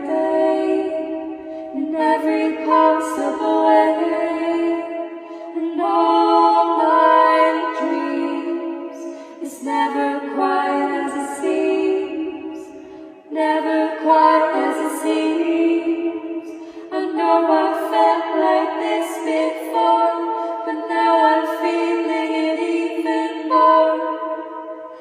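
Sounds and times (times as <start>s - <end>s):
unaccompanied vocal singing: 0.0s - 25.0s.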